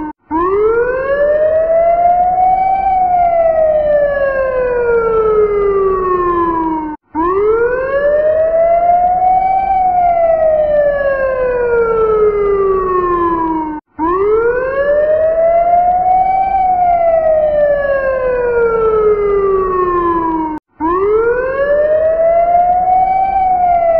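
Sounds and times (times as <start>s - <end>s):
fire truck siren wailing: 0.0s - 23.9s.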